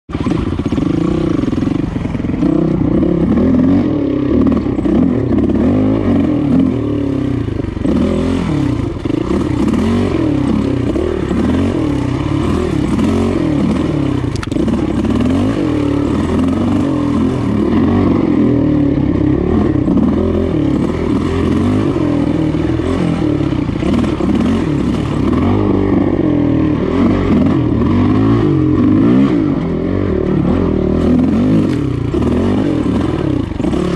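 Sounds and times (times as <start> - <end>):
dirt bike engine revving: 0.1 - 33.9.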